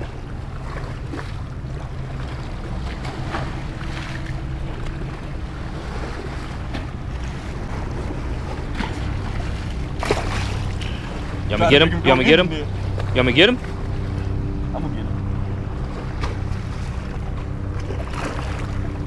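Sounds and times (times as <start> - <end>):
faint water splashes: 0.0 - 19.0
small waves lapping: 0.0 - 19.0.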